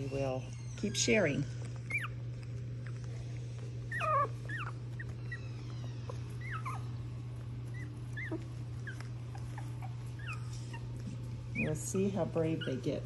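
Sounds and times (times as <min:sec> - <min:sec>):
puppies whimpering: 0:00.0 - 0:13.0
steady low hum: 0:00.0 - 0:13.0.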